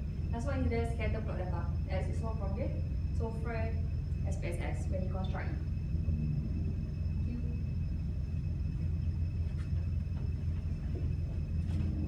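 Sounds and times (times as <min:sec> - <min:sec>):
high-pitched whine: 0:00.0 - 0:12.0
low room hum: 0:00.0 - 0:12.0.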